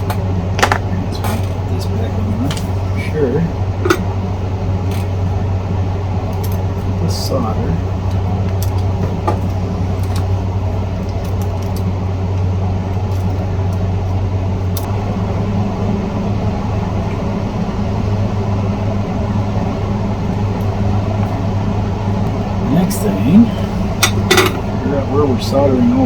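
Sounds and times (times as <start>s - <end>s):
machine hum with fan rush: 0.0s - 26.0s.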